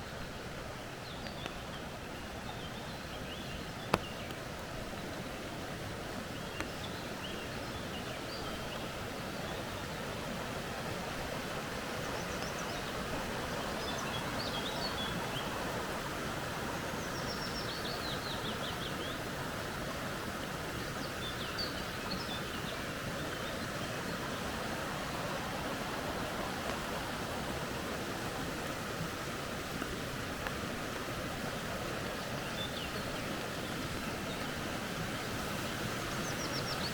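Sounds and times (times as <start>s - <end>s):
creek flowing: 0.0s - 36.9s.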